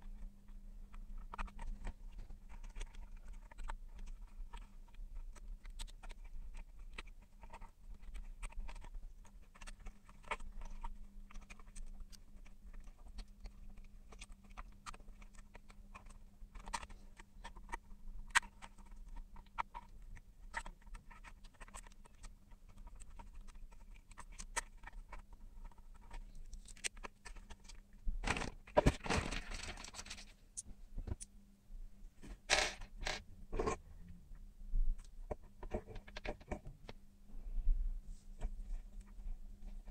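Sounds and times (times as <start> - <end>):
faint low hum: 0.0 - 39.9
plastic parts clicking and tapping: 0.9 - 31.3, 32.2 - 33.8, 35.0 - 37.0.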